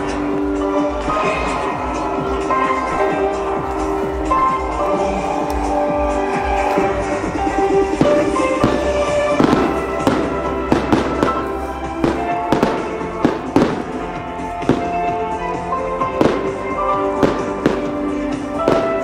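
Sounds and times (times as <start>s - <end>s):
fireworks bursting: 0.0s - 19.0s
music playing: 0.0s - 19.0s.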